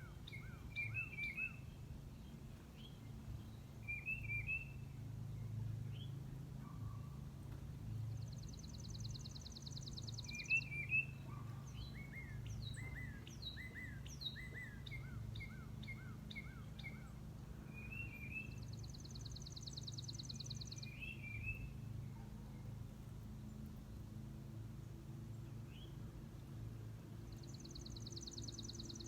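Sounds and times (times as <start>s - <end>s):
songbirds singing and calling: 0.0s - 29.0s.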